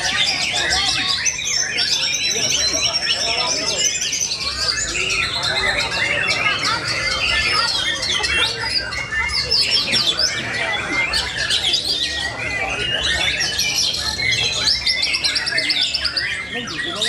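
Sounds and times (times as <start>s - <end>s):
birds singing whistles and chatters: 0.0s - 17.0s
fast repeated bird trill: 0.0s - 17.0s.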